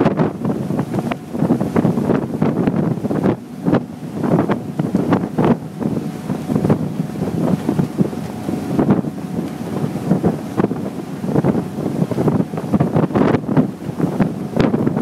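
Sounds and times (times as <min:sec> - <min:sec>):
rush of churning wake: 0:00.0 - 0:15.0
wind buffeting microphone: 0:00.0 - 0:15.0.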